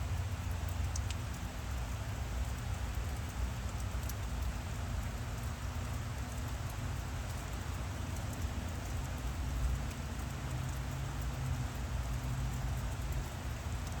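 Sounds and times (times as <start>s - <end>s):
faint ticks: 0.4s - 14.0s.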